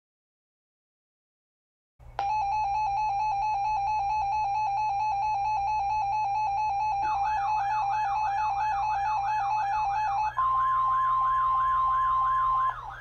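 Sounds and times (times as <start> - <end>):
low electrical hum: 2.0 - 13.0
loud alarm tone: 2.2 - 13.0.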